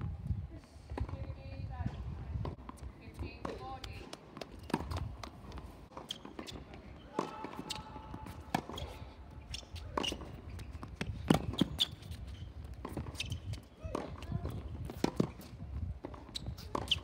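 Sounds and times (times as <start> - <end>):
tennis ball bouncing: 1.0 - 17.0.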